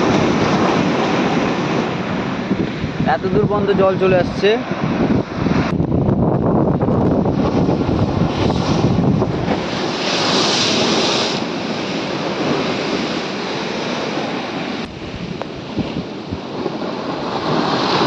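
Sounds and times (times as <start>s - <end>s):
storm surf breaking on a wall: 0.0s - 18.0s
wind buffeting the microphone: 0.0s - 18.0s.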